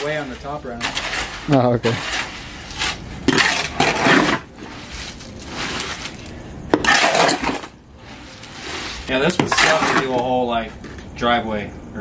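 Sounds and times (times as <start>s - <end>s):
shovel scraping wet concrete: 0.0s - 10.4s.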